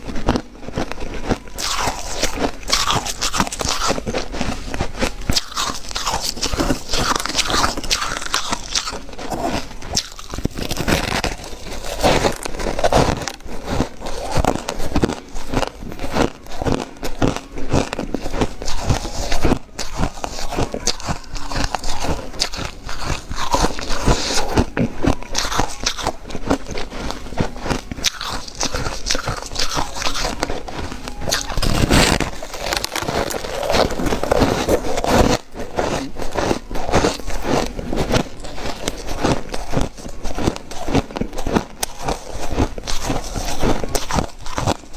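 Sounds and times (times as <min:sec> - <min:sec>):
person chewing crunchy ice: 0:00.0 - 0:44.9.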